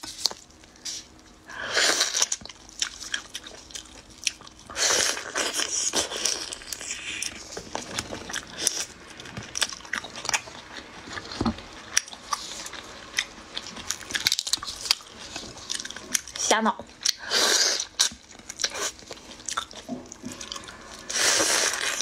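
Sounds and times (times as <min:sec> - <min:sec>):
chewing with shell crunches: 0:00.0 - 0:22.0.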